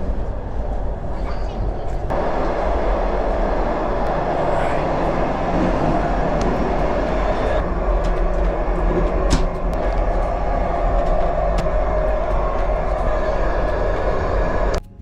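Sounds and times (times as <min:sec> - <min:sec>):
train rumble inside carriage: 0:00.0 - 0:14.9.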